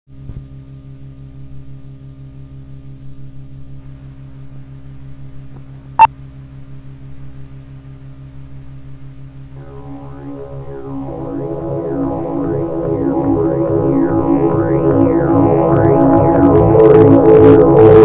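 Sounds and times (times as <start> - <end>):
low hum with fast pulsing: 0.2 - 18.0.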